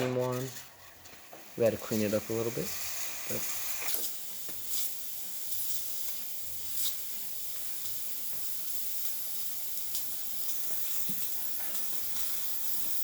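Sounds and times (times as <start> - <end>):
steam wand hissing: 0.2 - 13.0.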